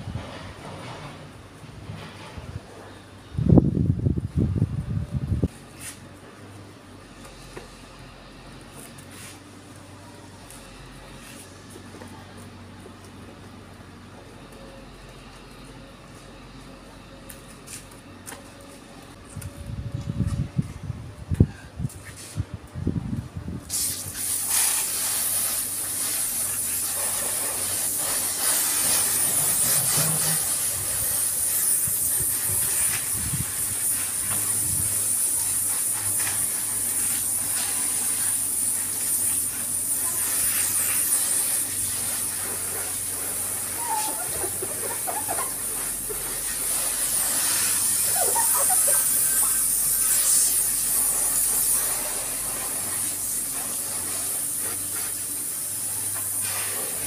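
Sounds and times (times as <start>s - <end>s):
hose water spraying on motorcycle: 0.0s - 57.0s.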